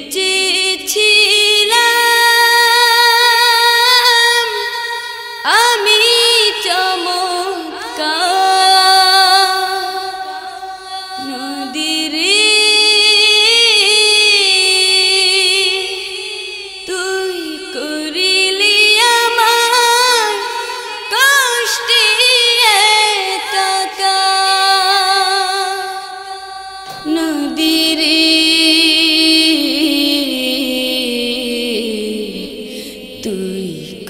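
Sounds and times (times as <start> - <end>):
song with singer: 0.0 - 34.0.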